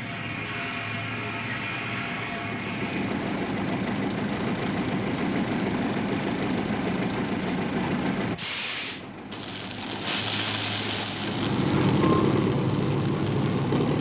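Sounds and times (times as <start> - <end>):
tractor engine rumbling: 0.0 - 8.4, 9.0 - 14.0.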